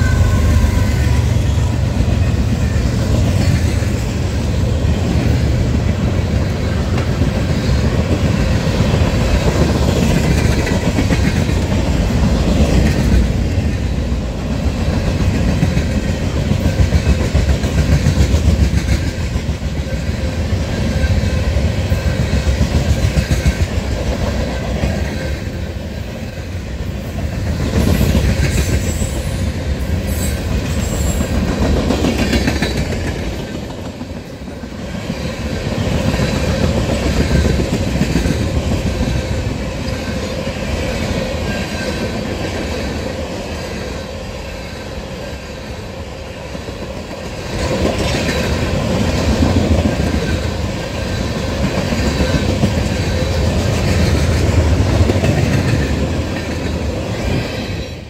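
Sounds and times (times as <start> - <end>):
freight train rumbling by: 0.0 - 58.0
steel wheels clacking over rail joints: 5.0 - 25.7, 27.1 - 43.1, 46.6 - 58.0.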